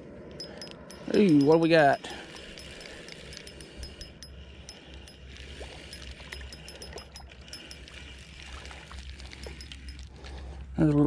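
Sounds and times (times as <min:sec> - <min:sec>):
fishing reel gears ticking: 0:00.3 - 0:10.5.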